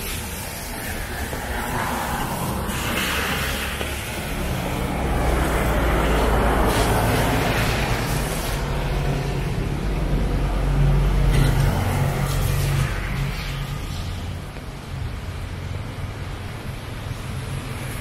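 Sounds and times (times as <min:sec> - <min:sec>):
hiss of passing cars: 0:00.0 - 0:18.0
vehicle engine humming: 0:00.0 - 0:18.0.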